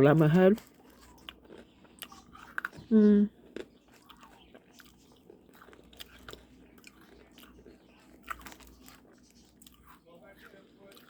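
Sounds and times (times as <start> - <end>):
person chewing crunchy candy: 0.1 - 11.0.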